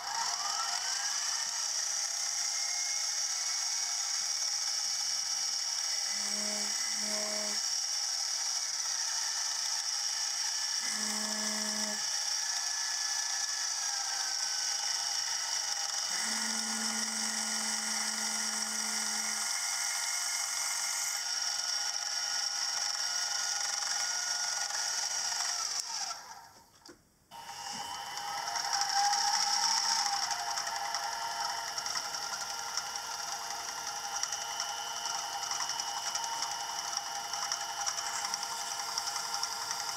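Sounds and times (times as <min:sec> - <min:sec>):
milling machine whine: 0:00.0 - 0:26.5, 0:27.3 - 0:39.9.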